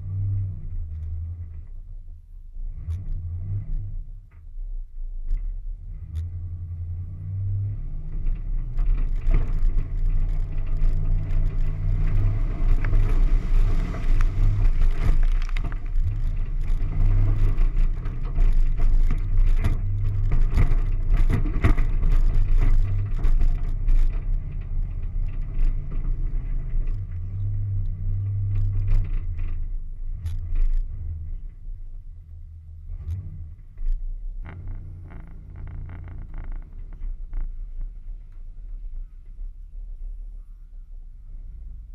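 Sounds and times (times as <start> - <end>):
off-road vehicle engine rumbling: 0.0 - 41.9
knocks and scrapes from ground: 2.6 - 40.0.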